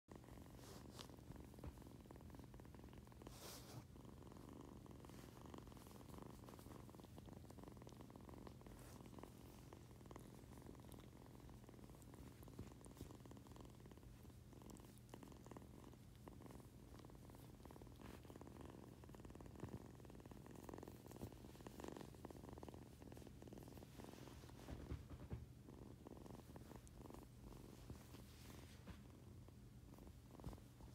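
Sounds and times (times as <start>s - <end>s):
kitten purring: 0.1s - 30.9s.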